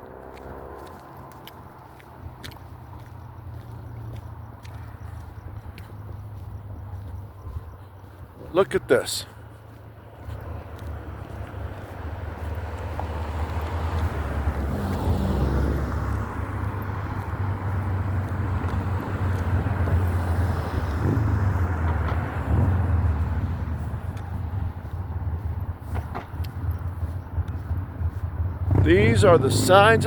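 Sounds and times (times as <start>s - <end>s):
cars passing: 0.0s - 30.0s
low traffic rumble: 0.0s - 30.0s.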